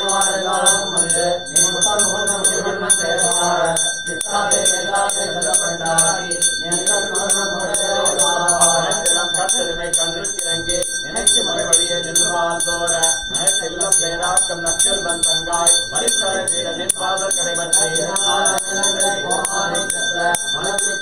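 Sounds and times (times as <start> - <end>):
brass hand bell ringing: 0.0 - 21.0
man chanting: 0.0 - 21.0.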